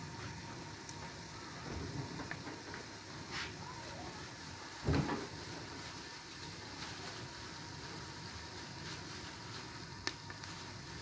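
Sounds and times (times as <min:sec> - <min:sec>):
onions sizzling in oil: 0:00.0 - 0:11.0
faint crackles: 0:00.1 - 0:11.0.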